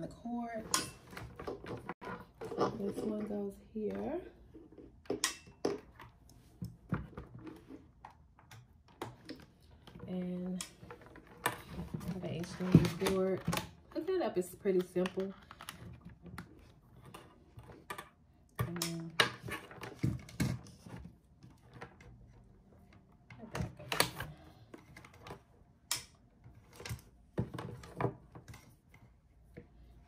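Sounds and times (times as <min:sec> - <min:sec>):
cables and plugs clicking and rattling: 0:00.0 - 0:30.0.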